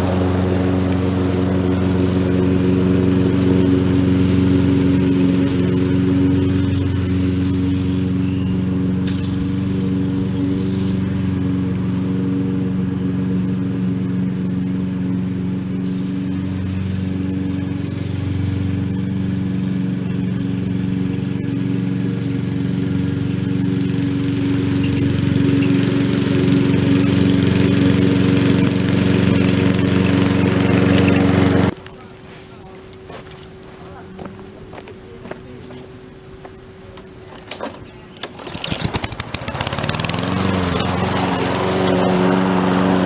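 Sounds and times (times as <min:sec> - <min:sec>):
lawn mower engine cutting grass: 0:00.0 - 0:43.0.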